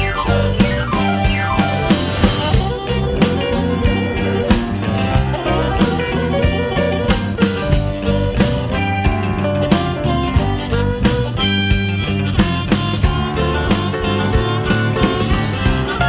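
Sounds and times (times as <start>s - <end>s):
electric blues band playing: 0.0s - 16.0s.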